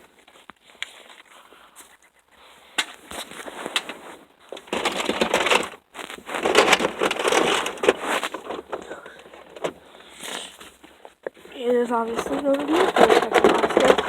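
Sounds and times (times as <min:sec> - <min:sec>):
crackly crunching and clattering: 0:00.0 - 0:14.0.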